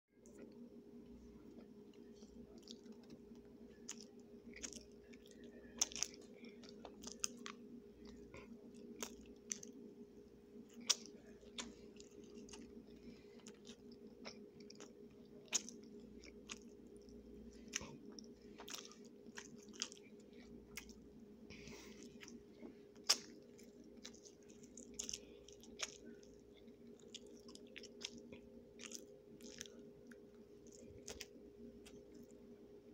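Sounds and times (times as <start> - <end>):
steady low hum: 0.1 - 32.9
chewing and biting food: 1.5 - 9.9, 10.6 - 32.4.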